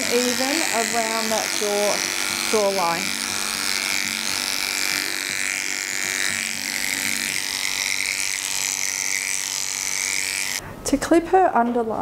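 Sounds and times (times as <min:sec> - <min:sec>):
dog clipper buzzing: 0:00.0 - 0:10.6.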